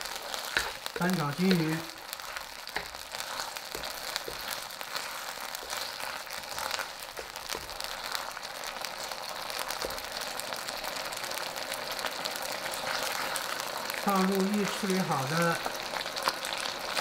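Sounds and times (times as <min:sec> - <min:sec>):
spatula stirring: 0:00.0 - 0:14.8
pork sizzling in a wok: 0:00.0 - 0:17.0.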